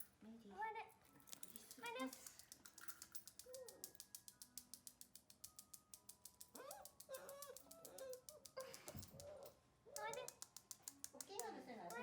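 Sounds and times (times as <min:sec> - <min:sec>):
faint music with ticking beat: 0:01.0 - 0:12.0.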